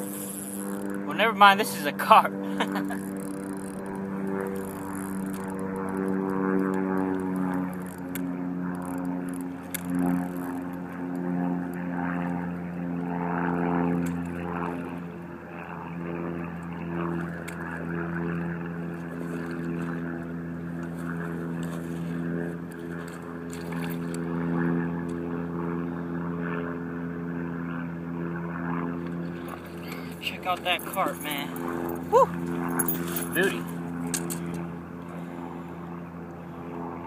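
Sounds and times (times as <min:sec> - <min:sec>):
motor droning: 0:00.0 - 0:37.0.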